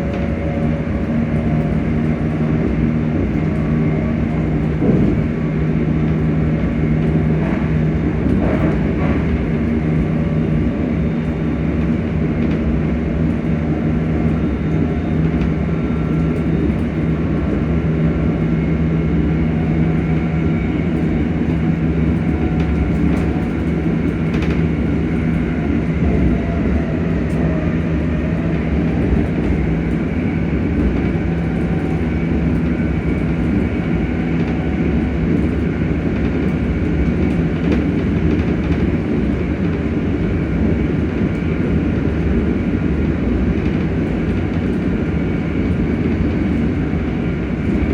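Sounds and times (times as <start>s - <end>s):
electric train motors humming: 0.0s - 47.9s.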